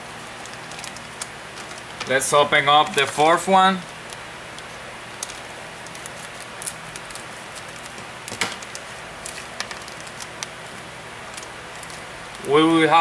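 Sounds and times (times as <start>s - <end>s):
plastic crinkles and clicks: 0.4s - 12.5s.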